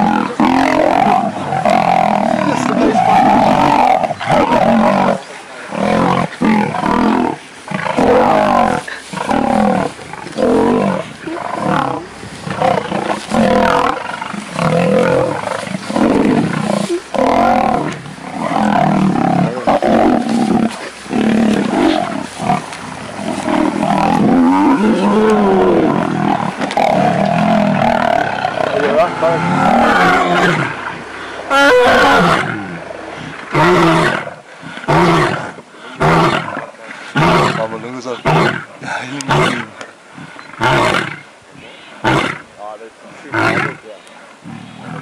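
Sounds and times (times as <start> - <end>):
lions roaring and snarling: 0.0 - 42.5, 43.2 - 45.0.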